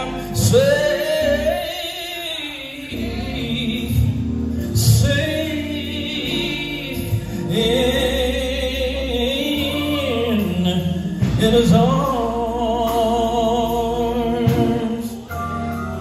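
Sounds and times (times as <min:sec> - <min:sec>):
low accompaniment: 0:00.0 - 0:01.8, 0:02.4 - 0:16.0
gospel singing voices: 0:00.0 - 0:16.0.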